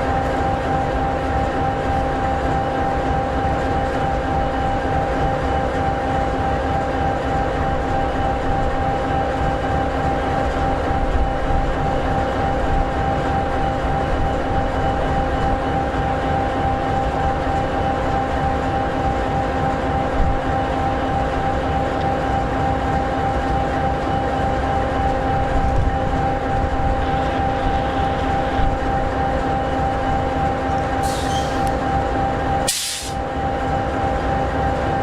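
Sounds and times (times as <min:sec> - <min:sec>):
diesel locomotive engine idling: 0:00.0 - 0:35.0.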